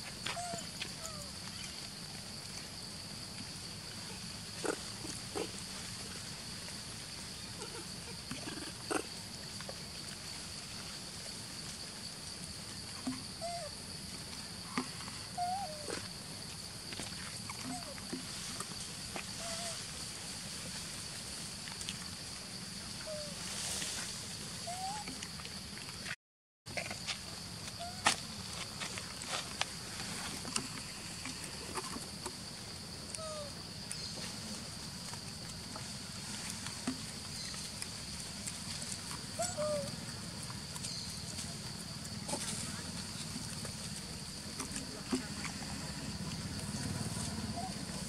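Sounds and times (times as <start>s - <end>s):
high drone of insects: 0.0s - 48.0s.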